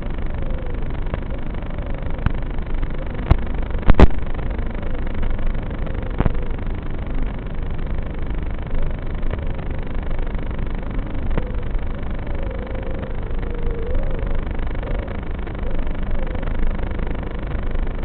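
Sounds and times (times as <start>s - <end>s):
drone motor whine: 0.0s - 18.0s.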